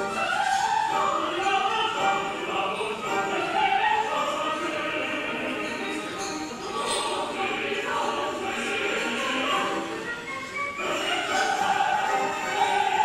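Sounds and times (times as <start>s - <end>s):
opera singing: 0.0s - 13.0s
orchestra playing: 0.0s - 13.0s.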